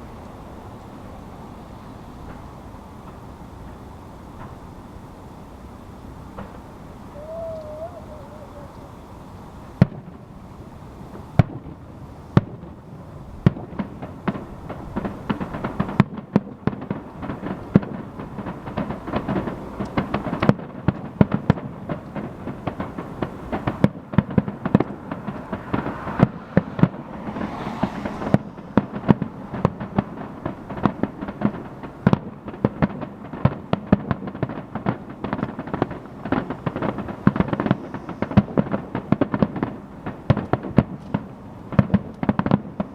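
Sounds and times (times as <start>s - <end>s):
fireworks bangs and crackling: 1.0s - 5.3s, 6.1s - 42.9s.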